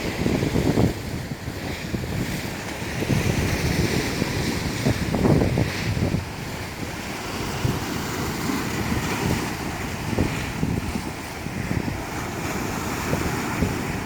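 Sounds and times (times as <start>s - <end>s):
waves breaking on beach: 0.0s - 14.0s
wind buffeting microphone: 0.0s - 14.0s.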